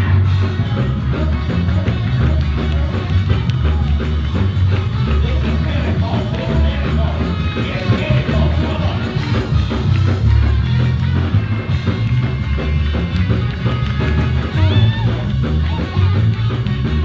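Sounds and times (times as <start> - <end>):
band music: 0.0 - 17.0
drums: 0.0 - 17.0
guitar: 0.0 - 17.0
heavy bass: 0.0 - 17.0.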